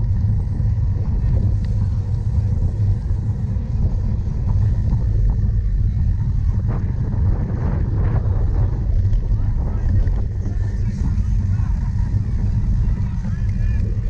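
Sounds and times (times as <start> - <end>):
bike riding over rough ground: 0.0 - 14.0
wind on microphone: 0.0 - 14.0.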